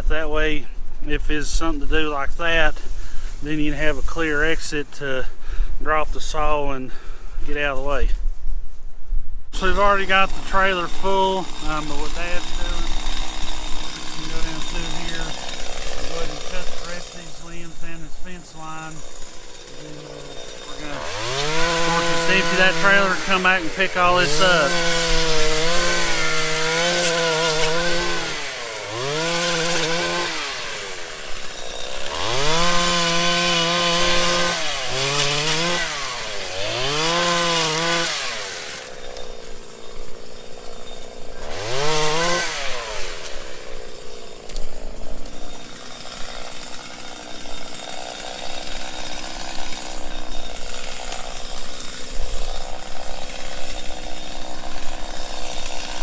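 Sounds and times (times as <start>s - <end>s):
chainsaw revving and cutting: 1.4s - 5.4s, 9.5s - 56.0s.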